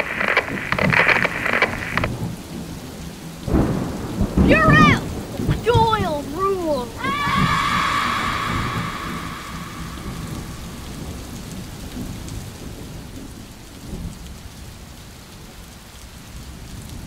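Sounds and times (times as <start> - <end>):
low thunder: 0.0 - 6.3, 6.9 - 14.7
steady rain: 0.0 - 17.0.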